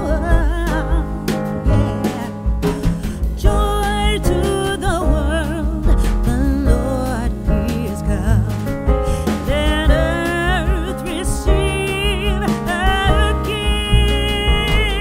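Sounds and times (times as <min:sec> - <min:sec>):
song with singing and beat: 0:00.0 - 0:15.0.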